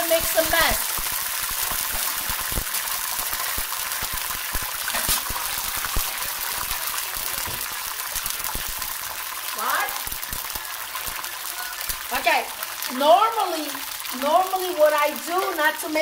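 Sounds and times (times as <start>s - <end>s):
tomatoes sizzling in frying pan: 0.0s - 16.0s.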